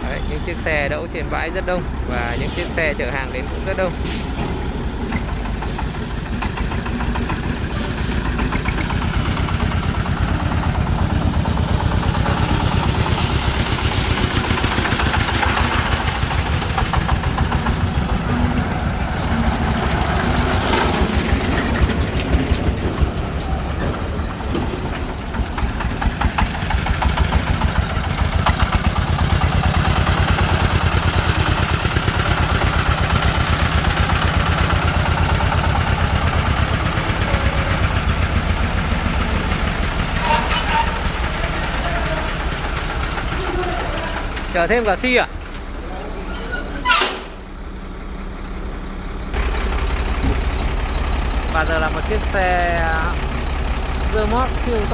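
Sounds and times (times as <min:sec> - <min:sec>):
diesel engine chugging: 0:00.0 - 0:54.9.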